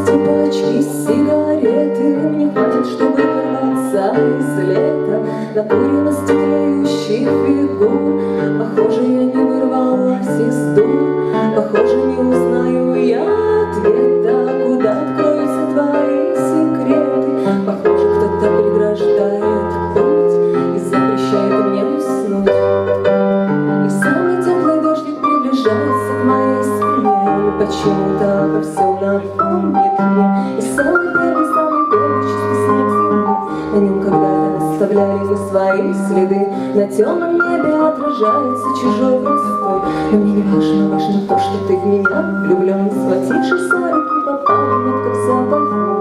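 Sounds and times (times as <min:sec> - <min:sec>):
keyboard chords: 0:00.0 - 0:46.0.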